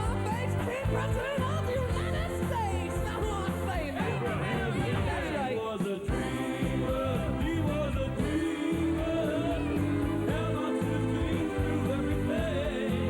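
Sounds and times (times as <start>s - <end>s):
pop song with singing: 0.0s - 13.0s.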